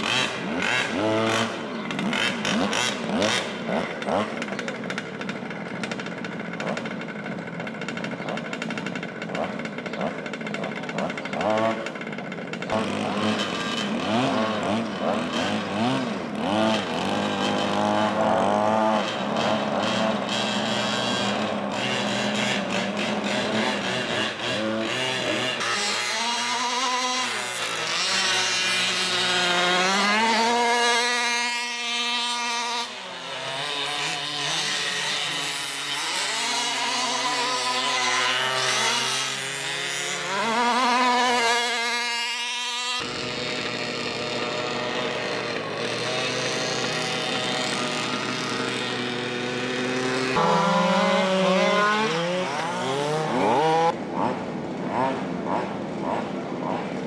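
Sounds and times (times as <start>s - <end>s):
small two-stroke engines revving: 0.0s - 57.0s.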